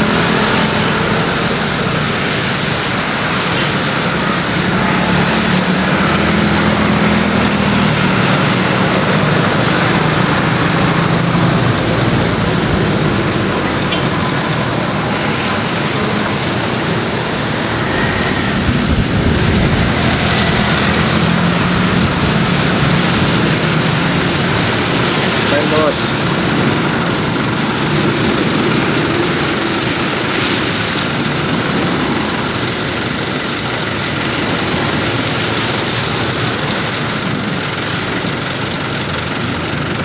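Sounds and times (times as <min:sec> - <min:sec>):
vehicle rumble: 0:00.0 - 0:40.0.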